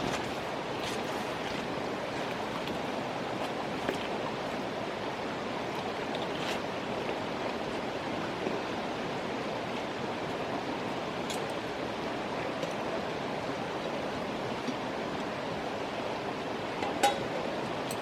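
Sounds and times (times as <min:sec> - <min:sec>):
flowing river water rushing: 0:00.0 - 0:18.0.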